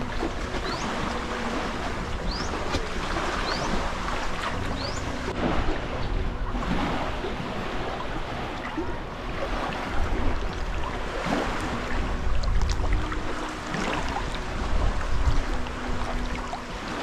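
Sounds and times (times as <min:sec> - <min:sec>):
water splashing while wading: 0:00.0 - 0:17.0
wind rumble on microphone: 0:00.0 - 0:17.0.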